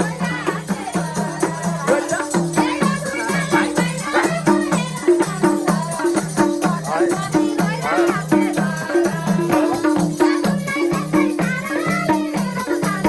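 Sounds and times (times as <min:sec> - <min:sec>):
pitched drum beats: 0:00.0 - 0:13.0
shaker rattling: 0:00.0 - 0:13.0.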